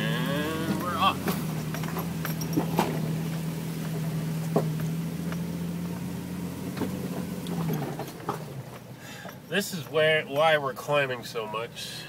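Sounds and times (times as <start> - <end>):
vehicle engine pulling uphill: 0.0 - 12.0.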